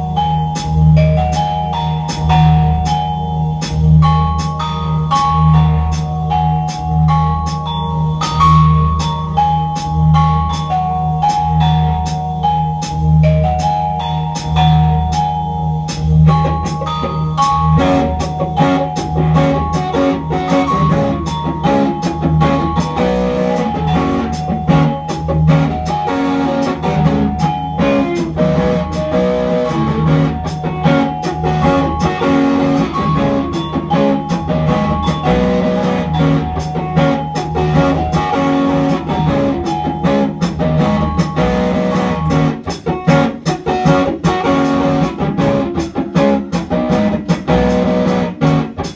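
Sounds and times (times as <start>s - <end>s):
electric guitar picking notes: 0.0s - 48.9s.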